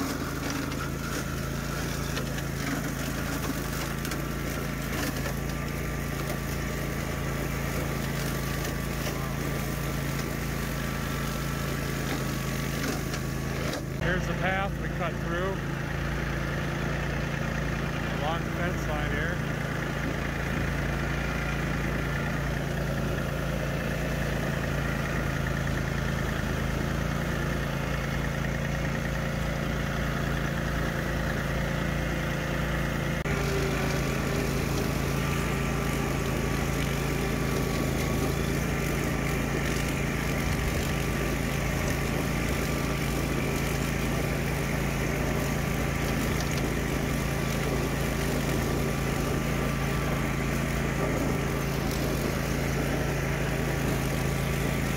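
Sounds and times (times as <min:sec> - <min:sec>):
mower engine running: 0:00.0 - 0:54.9
tractor diesel engine: 0:00.0 - 0:54.9.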